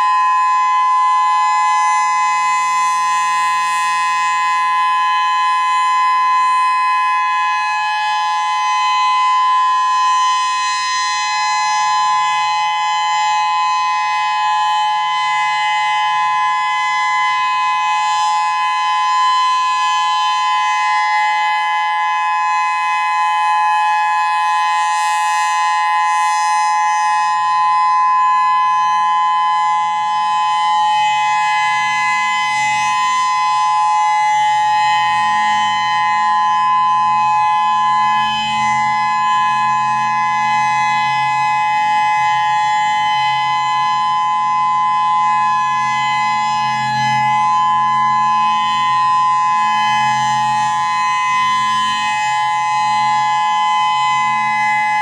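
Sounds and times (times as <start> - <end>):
warning siren steady alert tone: 0.0 - 55.0.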